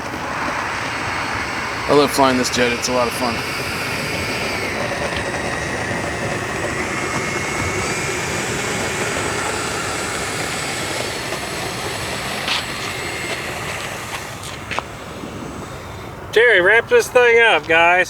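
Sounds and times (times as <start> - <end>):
model jet fan whining: 0.0 - 18.0.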